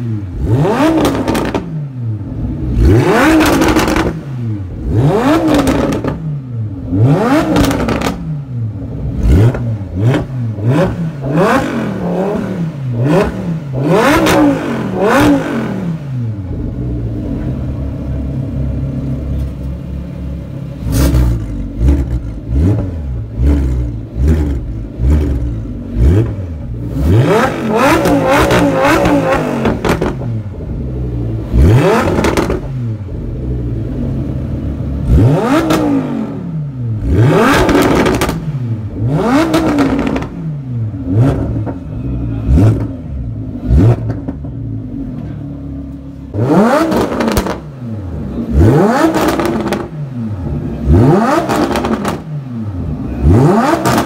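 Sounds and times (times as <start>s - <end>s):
car engine idling: 0.0s - 54.0s
car engine revving: 0.0s - 54.0s.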